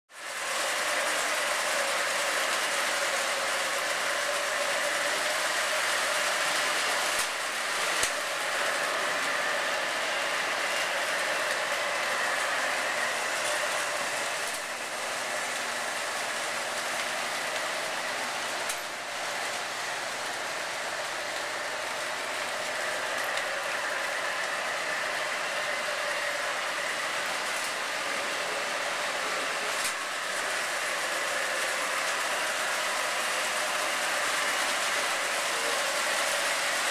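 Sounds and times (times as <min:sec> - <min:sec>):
model trains whirring on track: 0:00.1 - 0:36.9.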